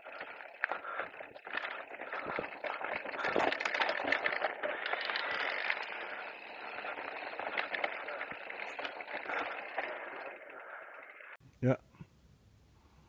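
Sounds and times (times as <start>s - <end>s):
tyres rushing over rough ground: 0.0s - 11.1s
crackles and rattles: 0.0s - 11.4s.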